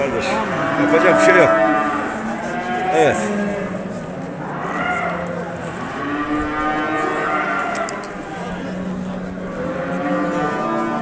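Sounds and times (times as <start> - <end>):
cattle mooing: 0.0 - 11.0.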